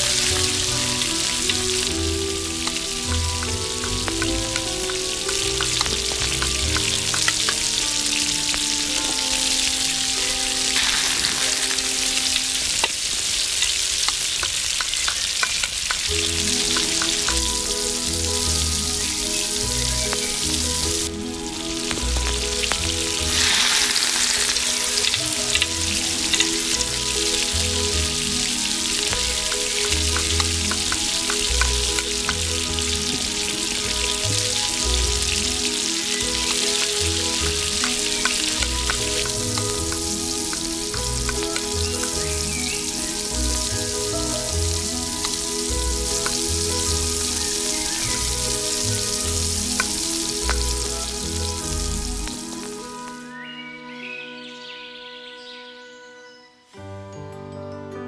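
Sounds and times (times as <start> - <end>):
vegetables sizzling in oil: 0.0 - 53.5
background music: 0.0 - 58.0.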